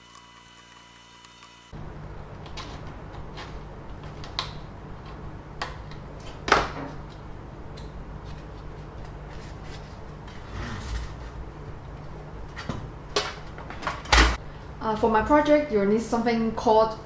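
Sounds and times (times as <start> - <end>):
steady low hum: 1.7 - 17.0.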